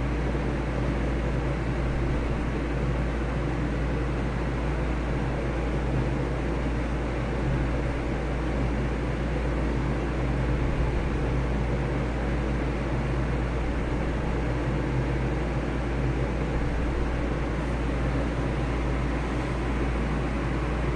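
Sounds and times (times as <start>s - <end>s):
droning hum and hiss: 0.0s - 20.9s.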